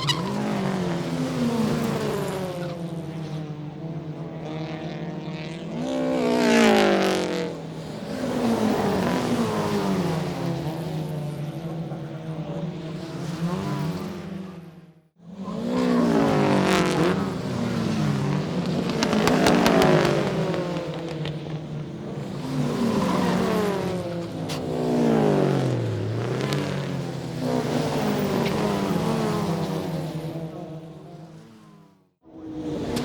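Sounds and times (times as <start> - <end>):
racing cars passing: 0.0 - 33.0.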